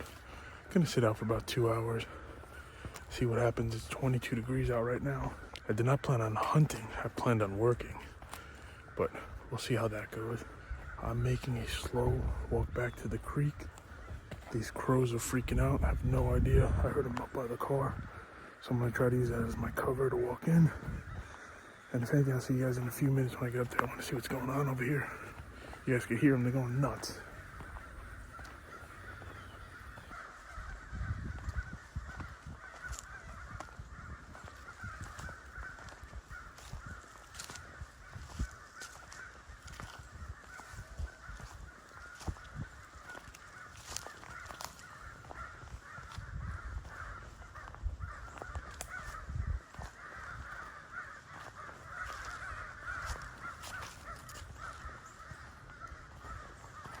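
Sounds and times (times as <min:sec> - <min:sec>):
crows cawing: 0:00.0 - 0:57.0.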